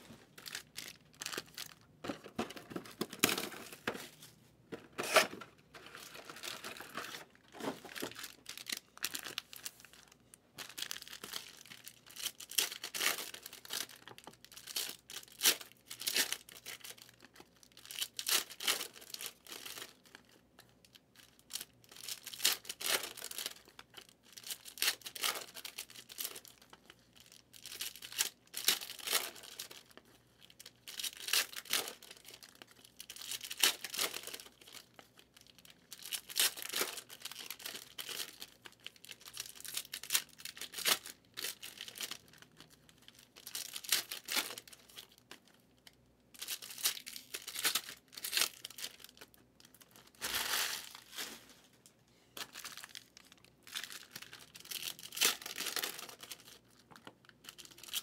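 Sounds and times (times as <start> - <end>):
wrappers crinkling: 0.0 - 4.3, 5.0 - 58.0.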